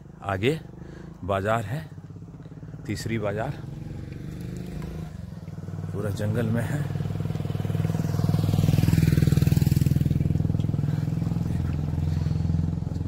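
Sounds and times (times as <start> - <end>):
motorcycle engine running: 0.0 - 13.0
motorcycle passing: 0.0 - 13.0.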